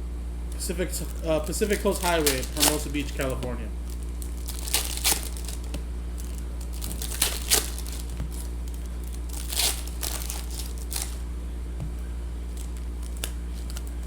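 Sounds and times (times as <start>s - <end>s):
steady low hum: 0.0s - 14.0s
foil wrappers tearing and crinkling: 0.5s - 11.2s, 12.5s - 14.0s.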